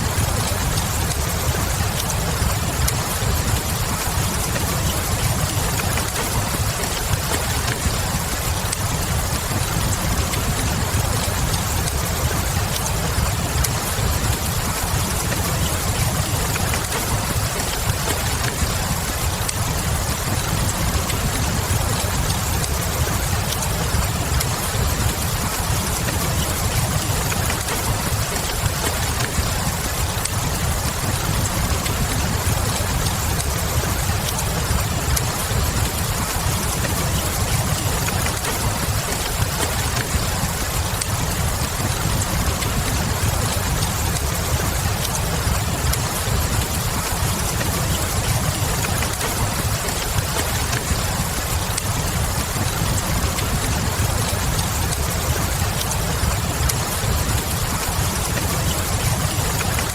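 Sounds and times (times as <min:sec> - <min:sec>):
rain hiss: 0:00.0 - 0:59.9
wood fire crackling: 0:00.0 - 0:59.9.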